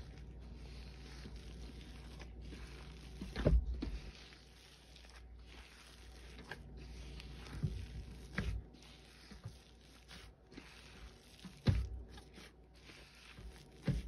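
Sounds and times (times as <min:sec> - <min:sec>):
hand squishing paste in bowl: 0:00.0 - 0:14.0.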